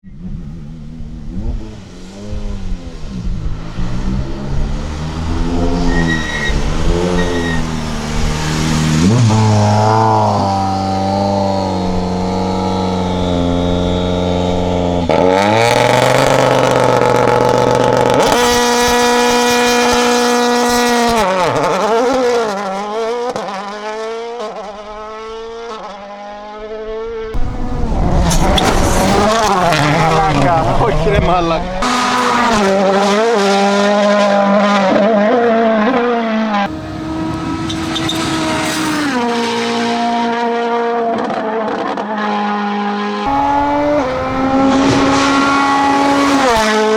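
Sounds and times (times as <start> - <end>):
rally car engine revving: 0.1 - 46.9.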